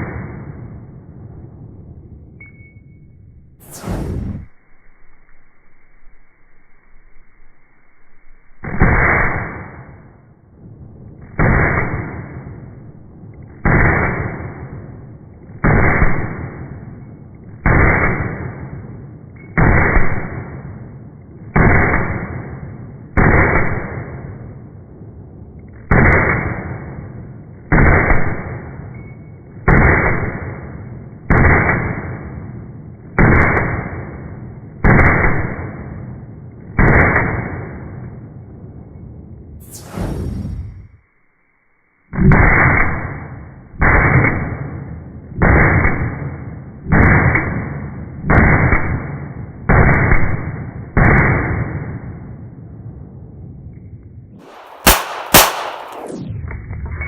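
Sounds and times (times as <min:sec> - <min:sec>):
slow motion muffled gunshot booms: 0:03.6 - 0:41.3, 0:42.1 - 0:53.6, 0:54.4 - 0:57.0.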